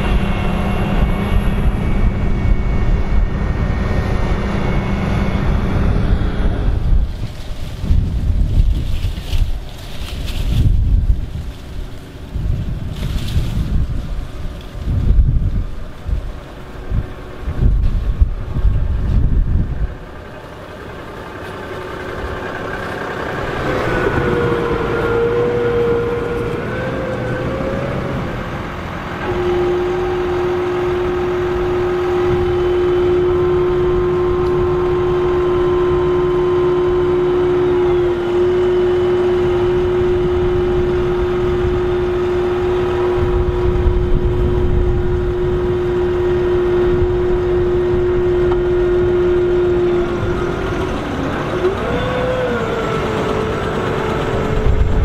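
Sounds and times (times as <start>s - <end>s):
tractor diesel engine working hard: 0.0s - 55.0s.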